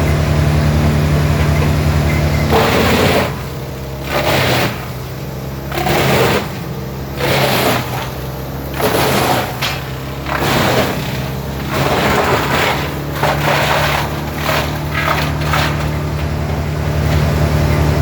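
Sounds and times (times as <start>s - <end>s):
diesel engine running under load: 0.0s - 18.0s
wood chipper chipping log: 0.0s - 18.0s.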